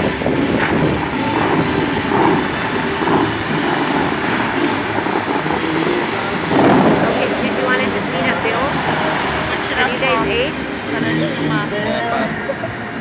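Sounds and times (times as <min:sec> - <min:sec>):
spray pouring onto water: 0:00.0 - 0:12.6
fountain water jets rushing: 0:00.0 - 0:13.0.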